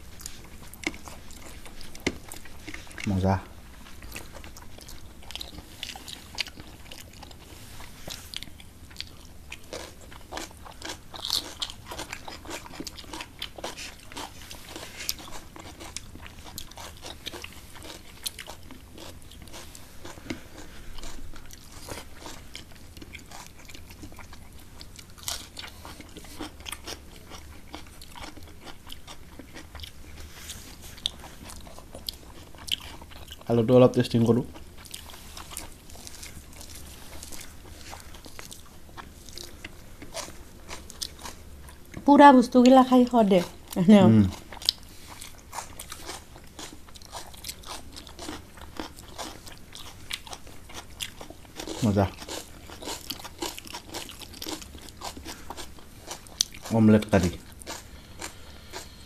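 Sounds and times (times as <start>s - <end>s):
people chewing food: 0.0s - 59.0s.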